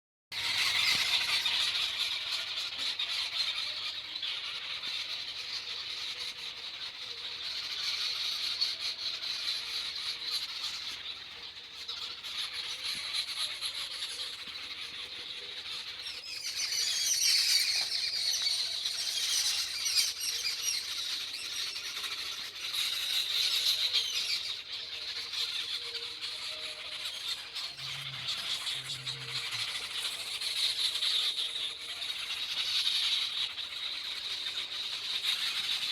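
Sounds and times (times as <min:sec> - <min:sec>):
birds chirping and calling: 0:00.3 - 0:35.9.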